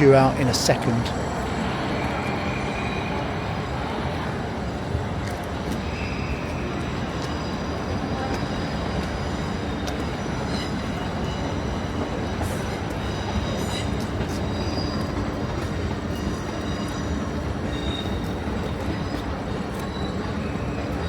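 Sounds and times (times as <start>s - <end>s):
faint high whines: 0.0s - 21.0s
train equipment hum and rumble: 0.0s - 21.0s.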